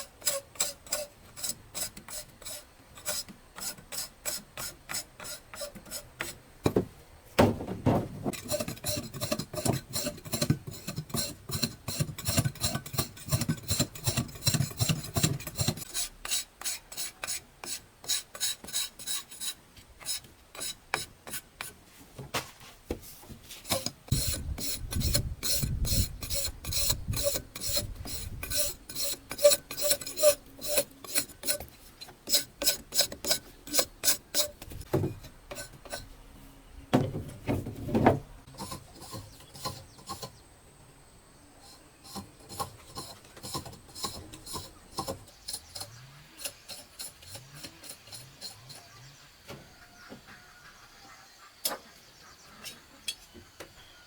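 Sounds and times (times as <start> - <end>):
rasping grinding: 0.0 - 6.4, 8.0 - 21.8, 23.5 - 36.2, 37.0 - 40.4, 41.6 - 49.3.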